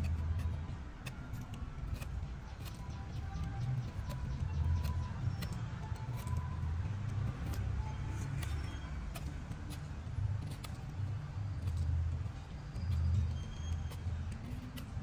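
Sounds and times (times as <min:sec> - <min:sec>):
knife scraping stem: 0:00.0 - 0:15.0.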